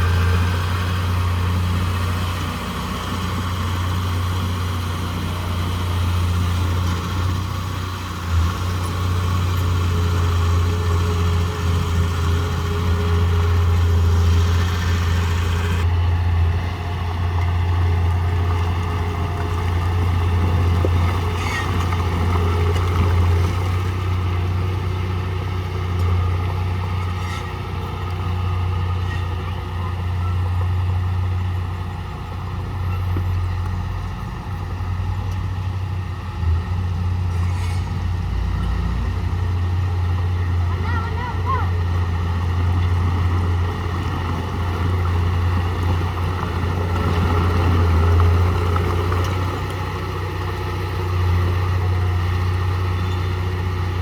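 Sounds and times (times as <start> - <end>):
heavy diesel engine drone: 0.0 - 54.0.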